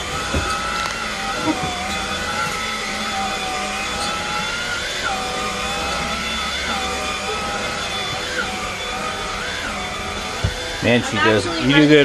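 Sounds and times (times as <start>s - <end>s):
vacuum cleaner motor whine: 0.0s - 12.0s.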